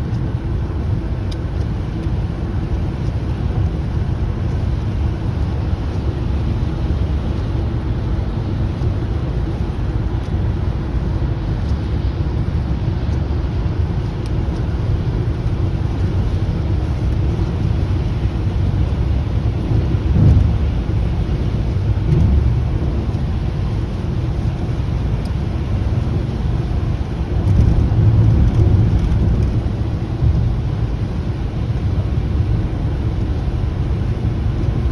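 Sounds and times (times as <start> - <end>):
rain: 0.0 - 34.9
vehicle driving rumble: 0.0 - 34.9.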